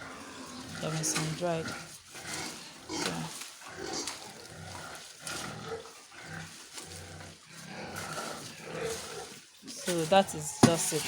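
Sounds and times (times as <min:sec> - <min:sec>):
pigs grunting: 0:00.0 - 0:11.0.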